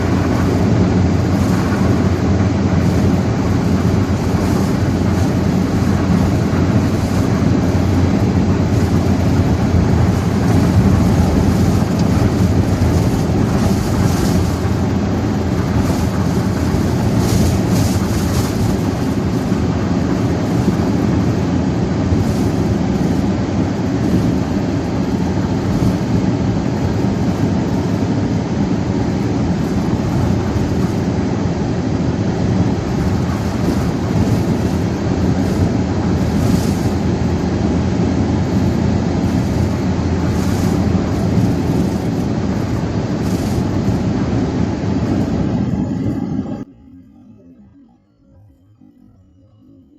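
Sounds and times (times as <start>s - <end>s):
strong wind buffeting microphone: 0.0s - 49.9s.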